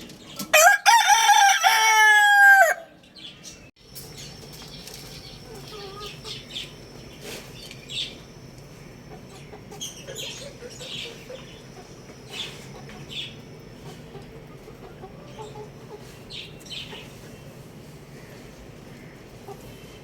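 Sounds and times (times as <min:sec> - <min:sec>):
chickens clucking: 0:04.0 - 0:20.0.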